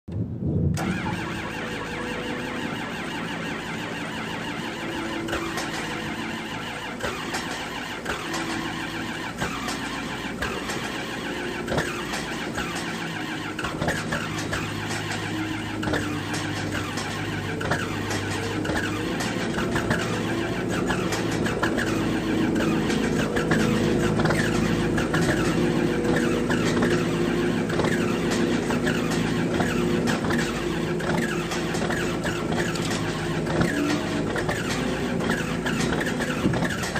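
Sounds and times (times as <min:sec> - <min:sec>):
diesel engine cranking and starting: 0:00.1 - 0:36.9.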